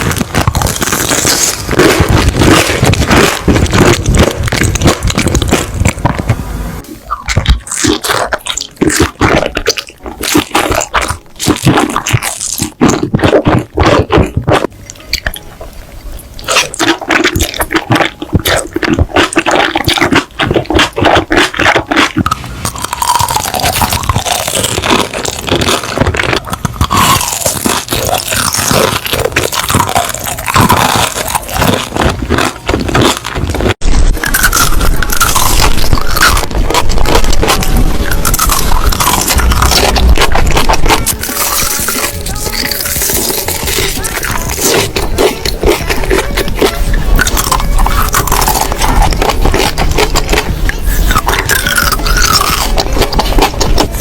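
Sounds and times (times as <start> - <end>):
crunching and chewing: 0.0 - 6.4, 7.0 - 54.0.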